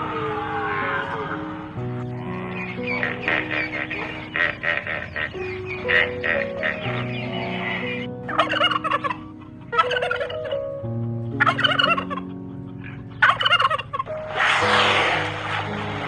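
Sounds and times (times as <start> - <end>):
background music with held notes: 0.0 - 16.0
bird calling wavering notes: 0.0 - 16.0.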